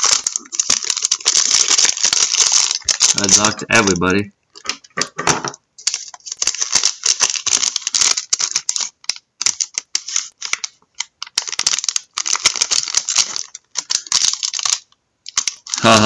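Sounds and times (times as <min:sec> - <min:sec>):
card pack wrapper crinkling: 0:00.0 - 0:16.0.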